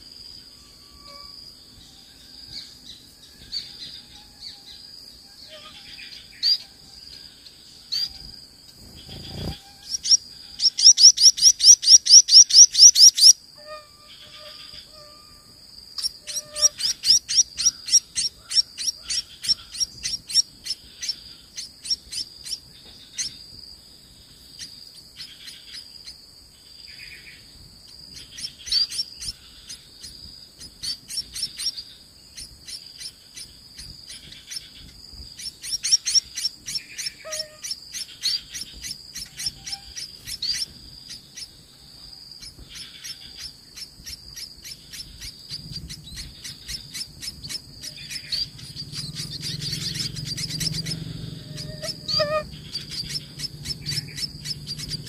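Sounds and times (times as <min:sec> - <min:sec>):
high insect drone: 0:00.0 - 0:55.0
nestlings begging chirps: 0:00.4 - 0:23.5, 0:24.3 - 0:26.2, 0:26.9 - 0:55.0.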